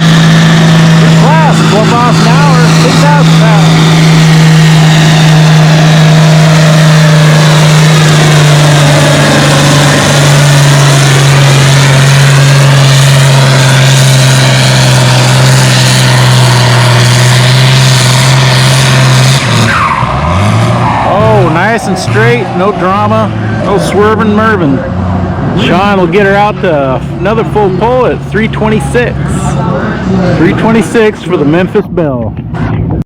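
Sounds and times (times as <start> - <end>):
tractor engine running hard: 0.0 - 33.0.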